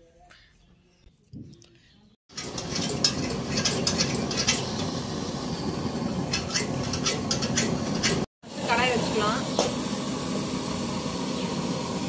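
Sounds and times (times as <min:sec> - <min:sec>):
stove burner rushing: 0:02.3 - 0:12.0.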